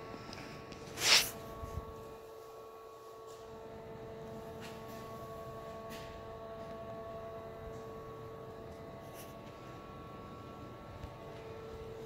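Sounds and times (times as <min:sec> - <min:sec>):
steady hum of held tones: 0:00.0 - 0:12.0.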